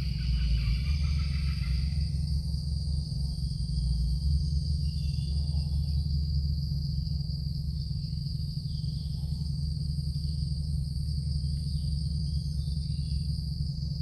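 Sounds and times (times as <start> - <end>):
insects trilling: 0.0 - 14.0
steady low rumble: 0.0 - 14.0.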